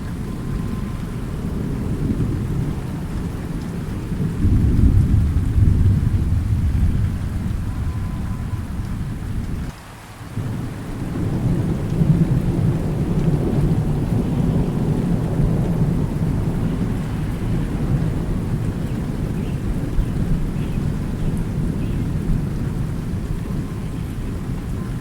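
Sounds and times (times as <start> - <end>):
rolling thunder: 0.0 - 9.7, 10.3 - 25.0
steady rain: 0.0 - 25.0.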